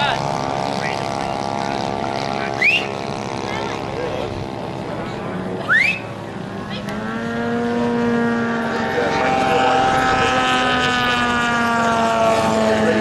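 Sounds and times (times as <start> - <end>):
model plane engine drone: 0.0 - 13.0.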